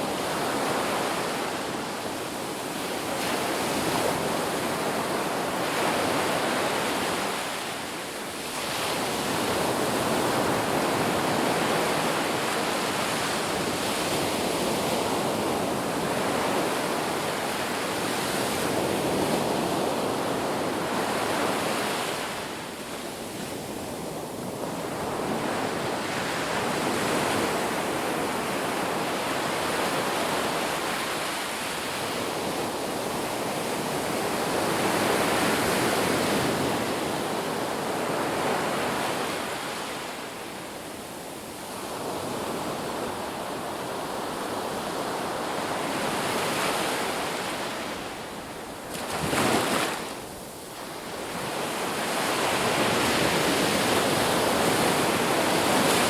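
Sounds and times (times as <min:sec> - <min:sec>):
waves washing onto beach: 0:00.0 - 0:56.0
wind: 0:00.0 - 0:56.0.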